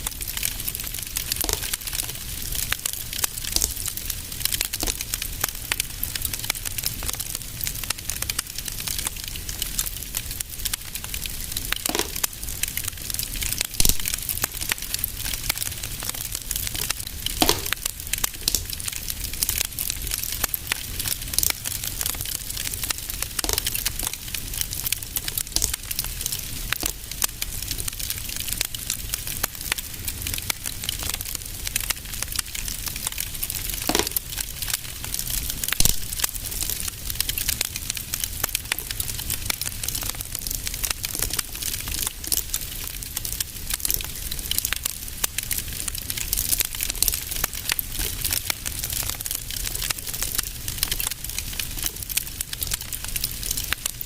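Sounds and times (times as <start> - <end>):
fire popping: 0.0 - 54.0
low rumble of flames: 0.0 - 54.0
wood fire crackling: 0.0 - 54.0.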